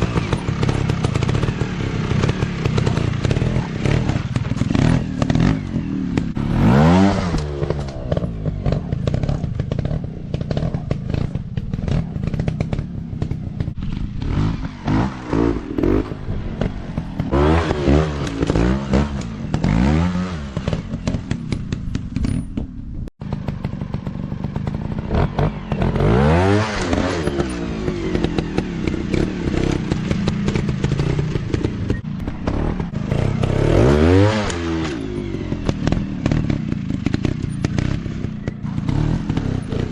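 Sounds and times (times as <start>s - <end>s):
bikes clattering over rough ground: 0.0s - 39.9s
dirt bike engines revving: 0.0s - 39.9s.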